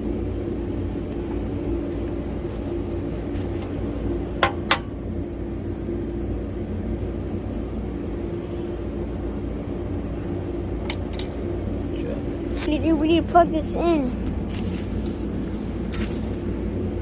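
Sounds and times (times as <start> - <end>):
machine hum with low rumble: 0.0 - 17.0.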